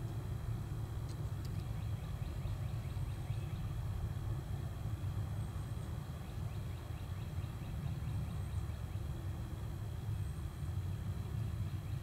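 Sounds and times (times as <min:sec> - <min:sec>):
low woodland rumble: 0:00.0 - 0:12.0.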